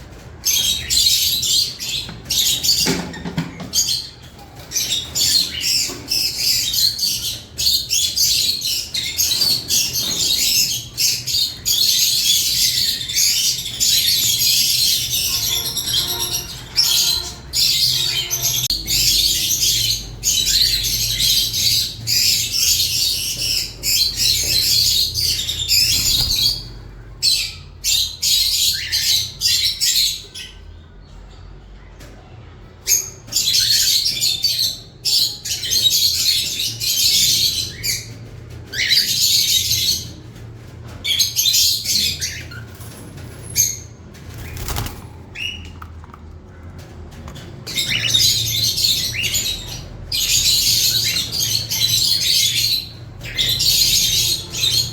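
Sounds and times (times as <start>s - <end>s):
birds chattering and squawking: 0.0s - 54.9s.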